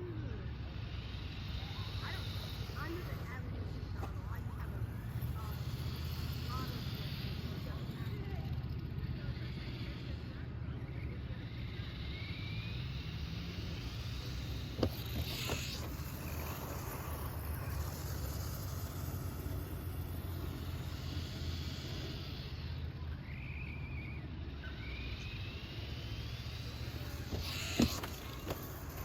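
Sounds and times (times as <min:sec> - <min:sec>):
rc truck motors whining: 0:00.0 - 0:29.0
tyre and chassis noise: 0:00.0 - 0:29.0.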